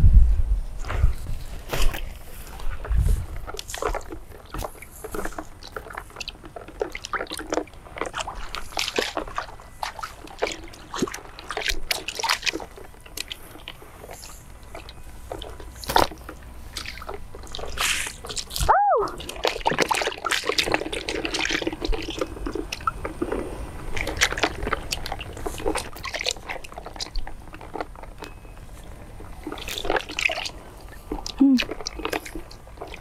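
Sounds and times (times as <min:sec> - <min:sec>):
bare feet squelching through mud: 0:01.1 - 0:33.0.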